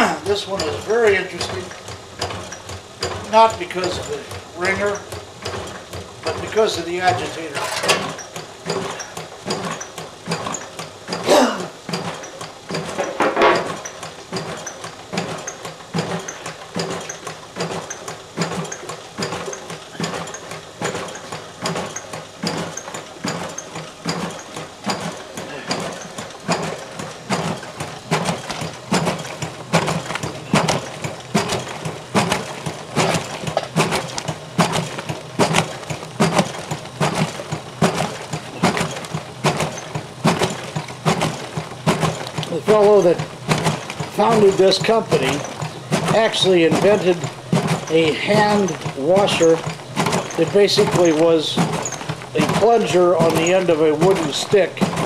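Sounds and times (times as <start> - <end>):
washing machine rhythmic clatter: 0.0 - 55.0.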